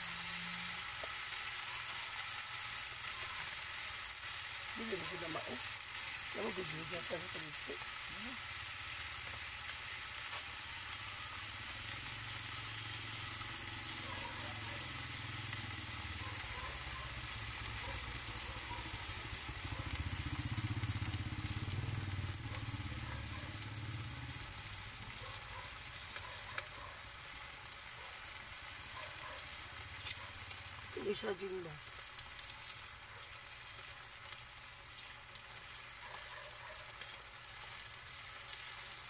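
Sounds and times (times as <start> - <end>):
potatoes sizzling in oil: 0.0 - 39.0.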